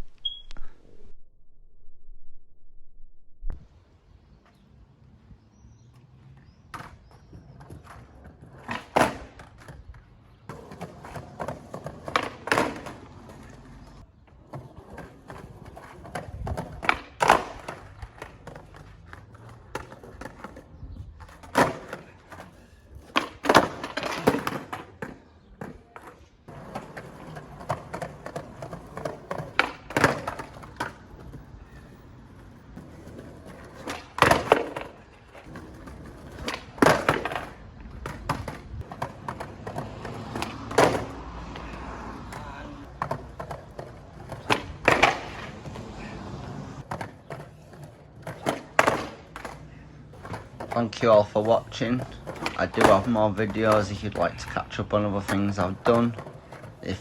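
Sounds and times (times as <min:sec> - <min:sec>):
skate wheels rolling on hard ground: 0:03.5 - 0:57.0
skateboard clacks and landing thuds: 0:05.9 - 0:45.9, 0:46.8 - 0:57.0.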